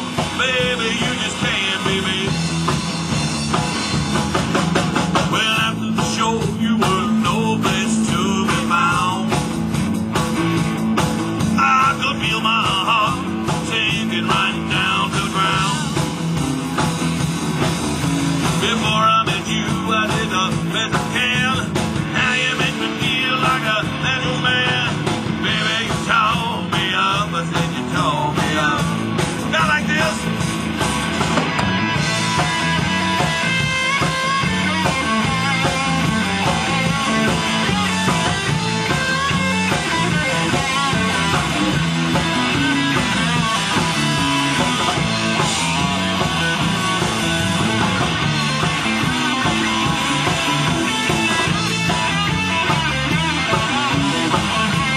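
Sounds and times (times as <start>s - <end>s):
drum kit: 0.0s - 54.9s
electric guitars: 0.0s - 54.9s.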